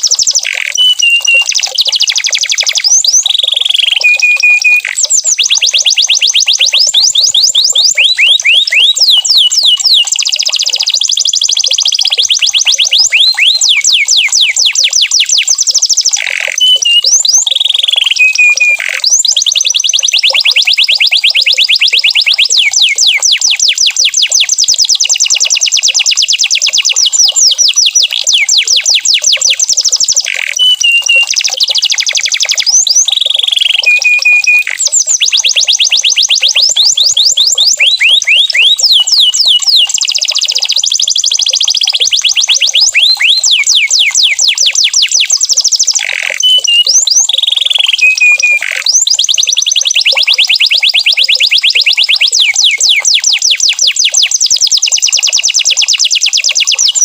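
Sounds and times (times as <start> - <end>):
canary held whistles: 0.0 - 24.2, 27.0 - 40.1, 40.8 - 54.3
canary trilling: 0.0 - 57.0.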